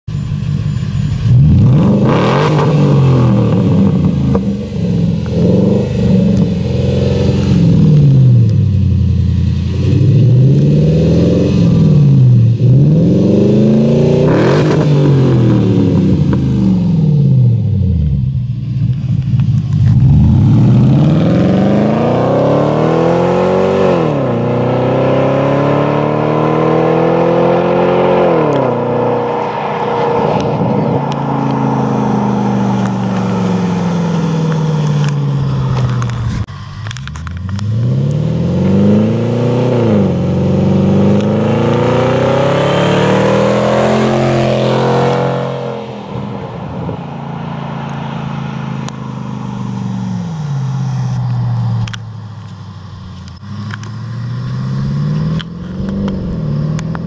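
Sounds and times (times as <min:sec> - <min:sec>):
car engine revving: 0:00.1 - 0:57.0
car accelerating through gears: 0:01.3 - 0:08.5, 0:09.8 - 0:17.7, 0:19.8 - 0:36.2, 0:37.4 - 0:50.9, 0:53.3 - 0:57.0.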